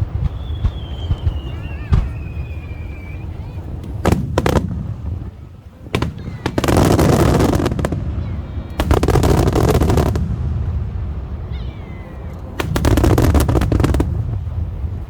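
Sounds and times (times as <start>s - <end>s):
fireworks booming: 0.0s - 15.0s
fireworks crackling: 0.0s - 15.0s
low rolling rumble: 0.0s - 15.0s.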